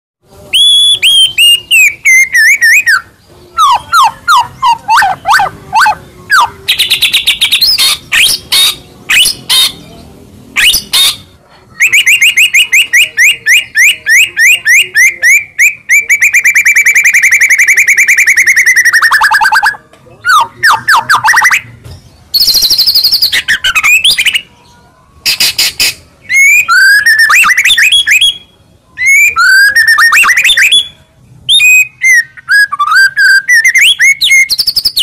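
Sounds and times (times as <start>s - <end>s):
songbird singing: 0.3s - 35.0s.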